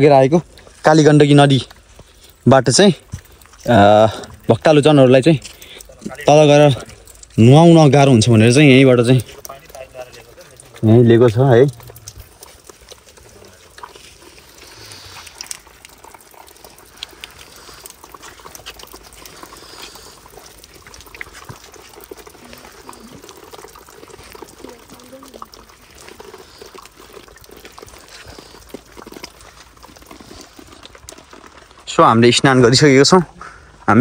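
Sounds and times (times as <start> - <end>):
water splashing onto stone: 0.0 - 34.0.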